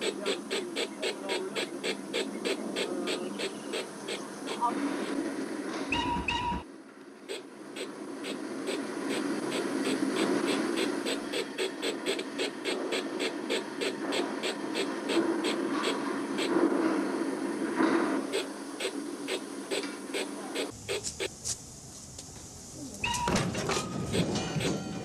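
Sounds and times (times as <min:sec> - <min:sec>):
model steam locomotive chuffing: 0:00.0 - 0:05.4, 0:07.3 - 0:21.2, 0:23.5 - 0:25.0.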